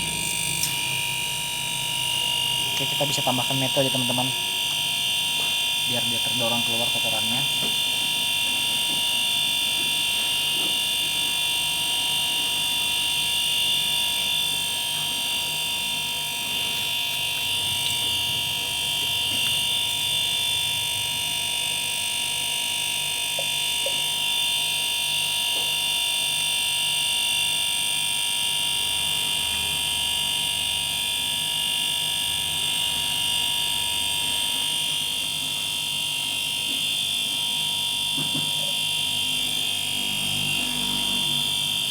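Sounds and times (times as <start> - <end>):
refrigerator compressor humming: 0.0 - 41.9.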